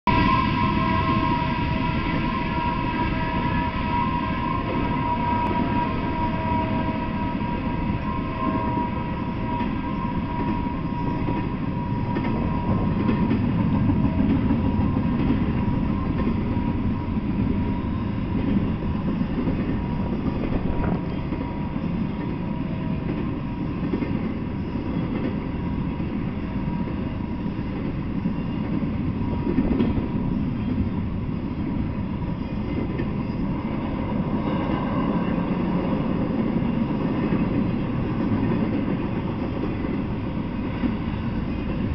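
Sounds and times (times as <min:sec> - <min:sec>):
freight train wheels rumbling: 0:00.1 - 0:41.9.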